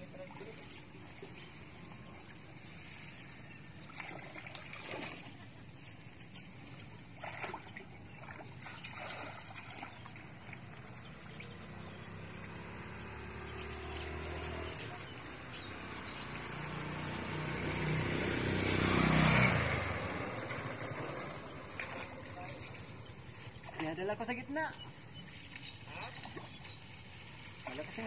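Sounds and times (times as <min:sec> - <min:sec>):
low motor hum: 0:00.0 - 0:23.8
water splashing and sloshing: 0:00.0 - 0:28.0.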